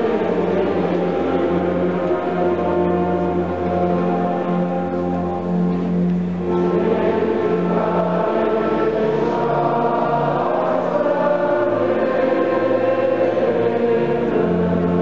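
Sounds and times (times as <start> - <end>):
choir singing held notes: 0.0 - 15.0
low sustained accompaniment: 0.0 - 15.0.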